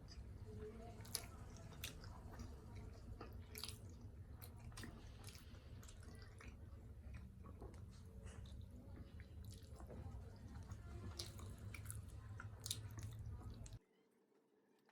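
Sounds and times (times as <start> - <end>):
person chewing food: 0.0 - 13.8.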